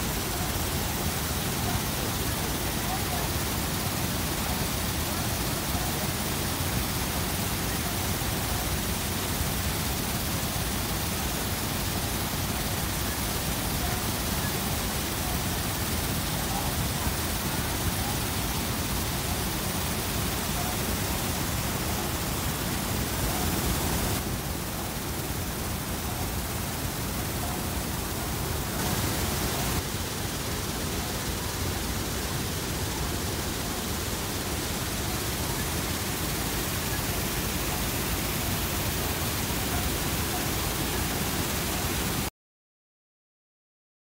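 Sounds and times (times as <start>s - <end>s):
water rushing over a spillway: 0.0s - 42.3s.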